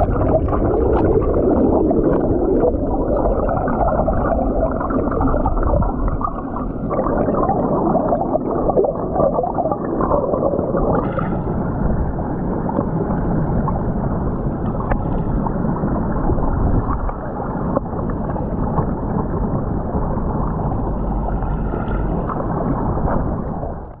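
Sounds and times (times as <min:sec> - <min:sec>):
stream water rushing underwater: 0:00.0 - 0:24.0.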